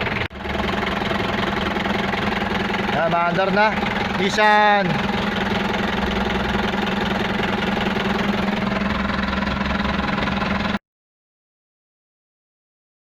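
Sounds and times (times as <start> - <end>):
diesel engine idling: 0.0 - 10.8.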